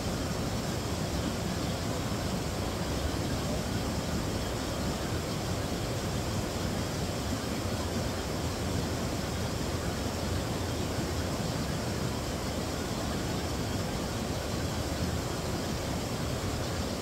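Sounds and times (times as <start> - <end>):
water rushing over weir: 0.0 - 17.0.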